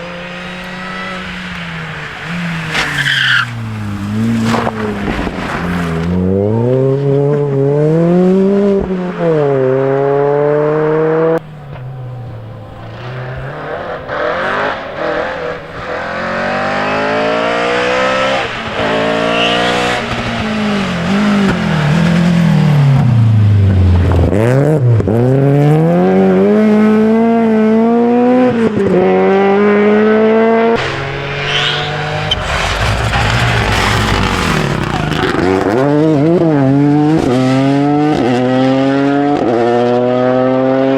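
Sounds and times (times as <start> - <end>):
rally car engines accelerating: 0.0 - 40.9.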